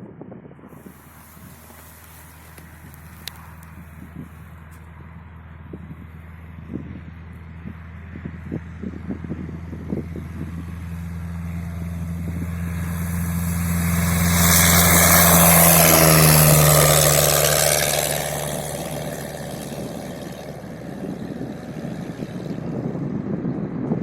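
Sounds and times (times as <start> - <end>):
propeller plane passing: 0.5 - 24.0.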